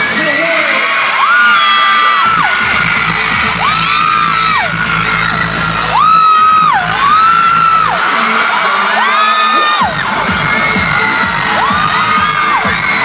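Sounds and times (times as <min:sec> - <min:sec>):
crowd of fans screaming: 0:00.0 - 0:13.0
loud pop music: 0:00.0 - 0:13.0.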